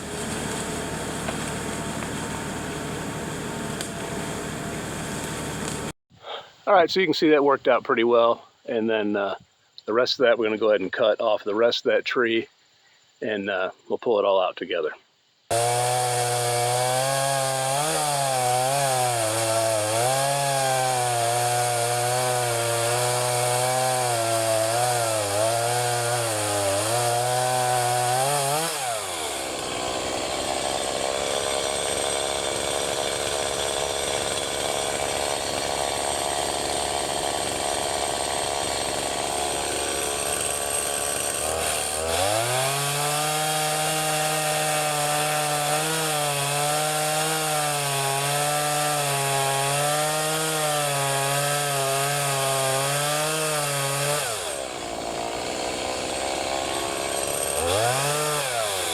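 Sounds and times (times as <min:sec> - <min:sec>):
chainsaw cutting tree: 0:00.0 - 0:06.0, 0:15.5 - 0:58.9.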